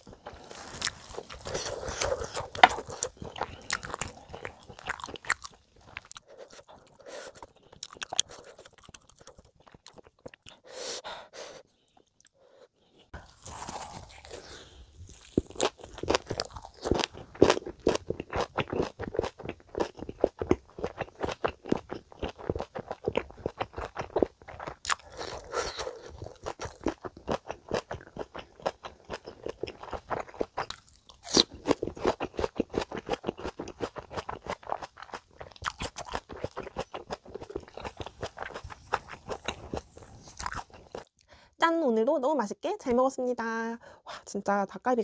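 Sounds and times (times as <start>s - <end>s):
chewing crunchy greens: 0.0s - 10.8s, 13.1s - 41.2s.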